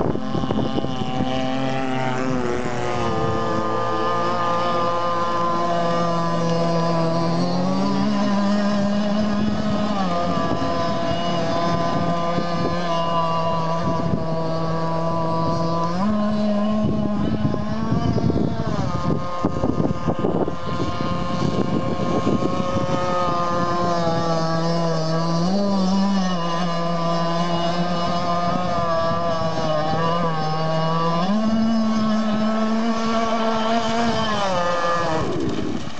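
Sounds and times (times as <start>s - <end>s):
model boat engine buzzing: 0.0s - 35.9s.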